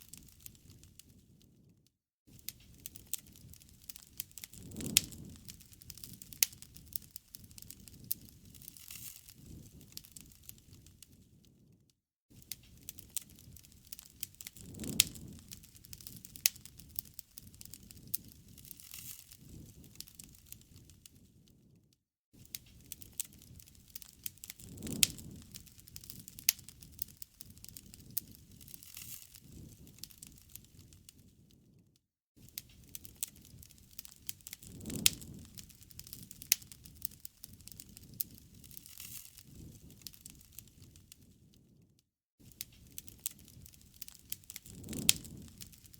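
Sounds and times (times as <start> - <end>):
campfire crackling and popping: 0.0 - 1.7, 2.3 - 11.7, 12.3 - 21.7, 22.4 - 31.8, 32.4 - 41.8, 42.4 - 45.9
low rush of flames: 0.1 - 1.7, 2.3 - 21.8, 22.4 - 31.8, 32.4 - 41.8, 42.4 - 45.9.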